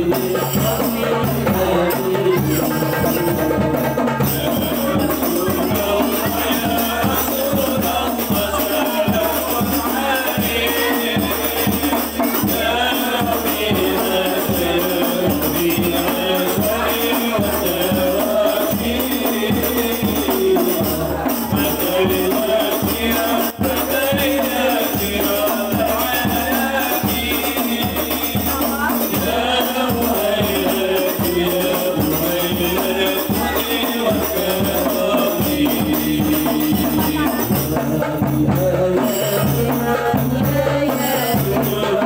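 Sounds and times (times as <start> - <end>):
frame drums beating: 0.0 - 42.0
group chanting in unison: 0.0 - 42.0.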